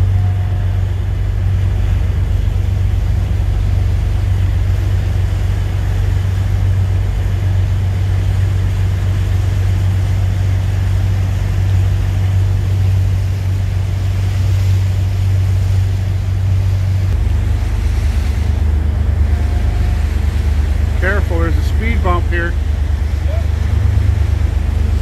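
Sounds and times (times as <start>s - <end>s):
boat engine droning: 0.0s - 25.0s
wind and water wash: 0.0s - 25.0s.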